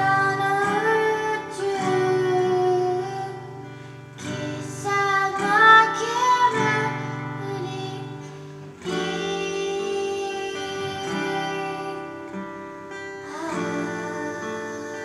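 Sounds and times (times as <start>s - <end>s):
guitar chords strummed: 0.0s - 15.0s
woman singing: 0.0s - 15.0s.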